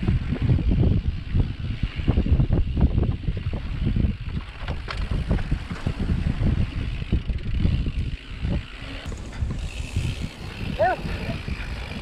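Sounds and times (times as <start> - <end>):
wind buffeting microphone: 0.0 - 12.0
bike rattling and knocking: 0.3 - 12.0.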